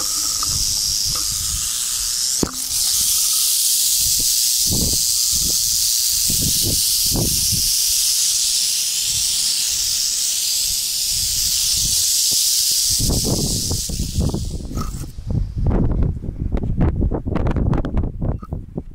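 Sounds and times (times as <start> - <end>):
rattlesnakes rattling: 0.0 - 15.6.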